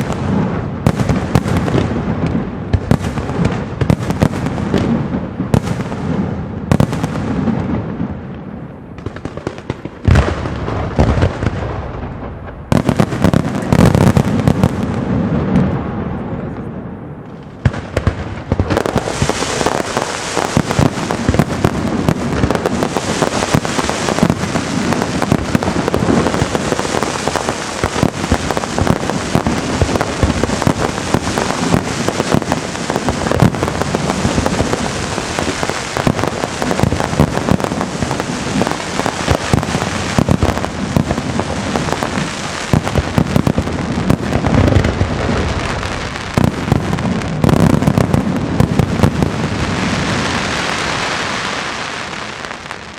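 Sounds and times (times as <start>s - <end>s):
sharp firework bangs: 0.0s - 8.1s, 8.9s - 16.6s, 17.6s - 52.2s
fireworks crackling: 0.0s - 52.9s.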